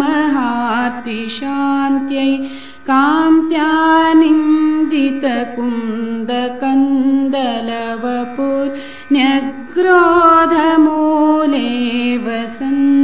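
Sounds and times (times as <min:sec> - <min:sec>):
person singing a devotional chant: 0:00.0 - 0:13.0.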